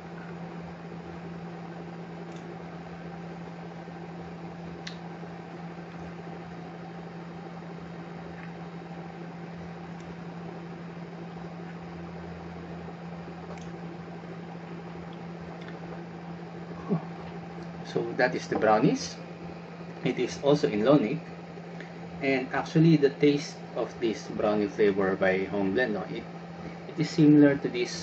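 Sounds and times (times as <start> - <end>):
electric fan hum and hiss: 0.0 - 28.0.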